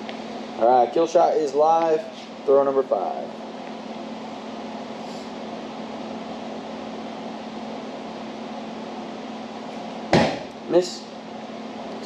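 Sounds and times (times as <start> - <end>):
ventilation fan hum and hiss: 0.0 - 12.0.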